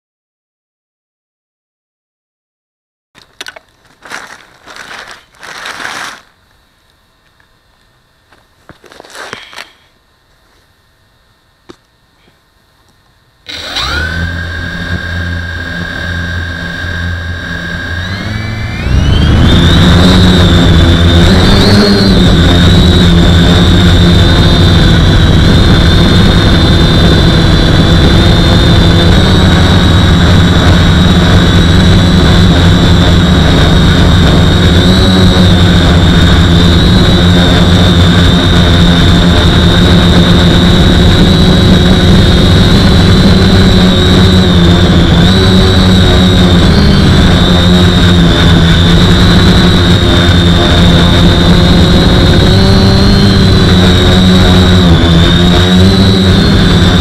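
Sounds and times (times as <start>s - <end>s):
drone motors whining: 3.2s - 57.0s.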